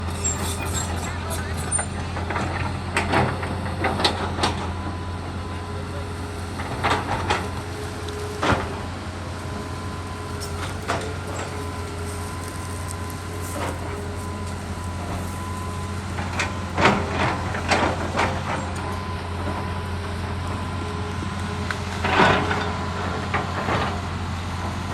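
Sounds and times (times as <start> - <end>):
excavator engine running: 0.0 - 24.9
hydraulic whine: 0.0 - 24.9.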